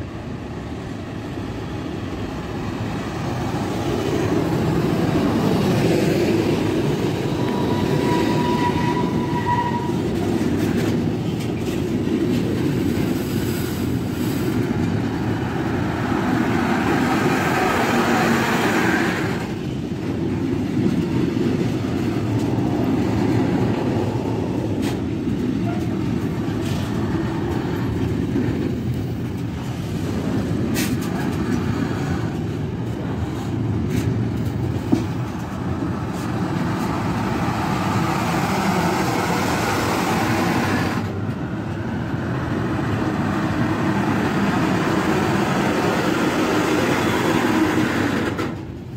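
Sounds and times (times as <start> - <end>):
train wheels rumbling: 0.0 - 48.9.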